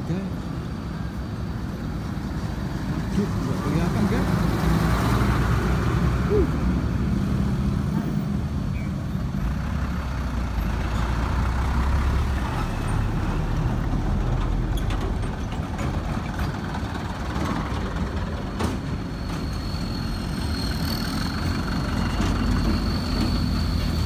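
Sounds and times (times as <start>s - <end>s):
diesel truck engines passing: 0.0s - 24.0s.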